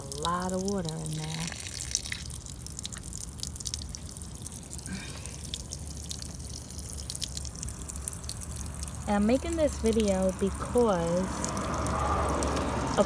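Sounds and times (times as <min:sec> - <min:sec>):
water dripping: 0:00.0 - 0:13.0
water trickling: 0:00.0 - 0:13.0.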